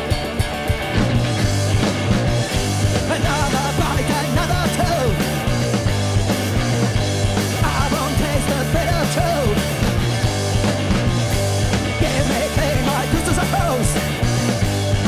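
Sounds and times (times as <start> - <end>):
heavy bass line: 0.0 - 15.0
live punk rock band: 0.0 - 15.0.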